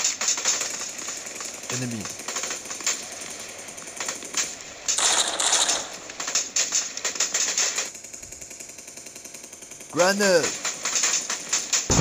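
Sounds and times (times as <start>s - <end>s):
rapid automatic gunfire: 0.0s - 12.0s.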